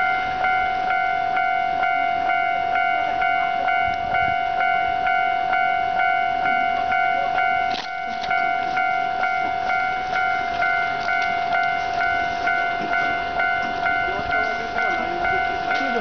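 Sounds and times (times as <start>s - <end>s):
crossing warning bell ringing: 0.0s - 16.0s.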